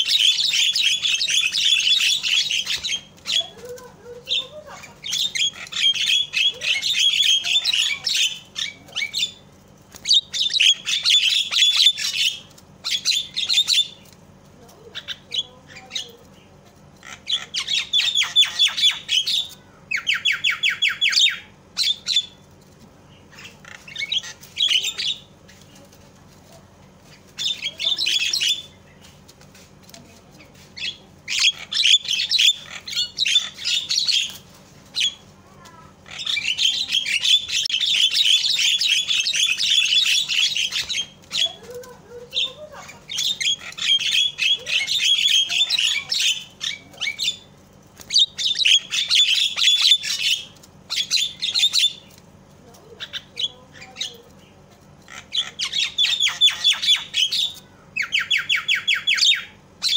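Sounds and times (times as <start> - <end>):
myna harsh chattering calls: 0.0 - 14.1, 14.8 - 22.4, 23.1 - 26.0, 27.0 - 29.1, 30.4 - 52.2, 52.9 - 59.9.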